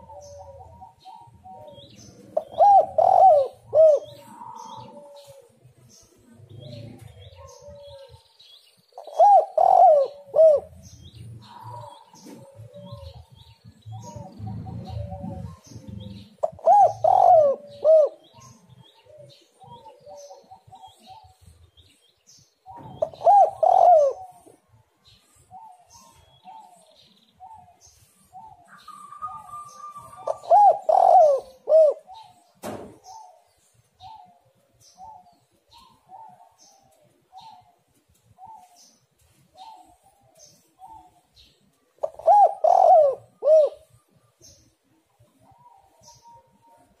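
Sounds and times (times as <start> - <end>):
dove cooing: 0.0 - 21.9, 22.6 - 47.0
small birds chirping: 0.0 - 47.0.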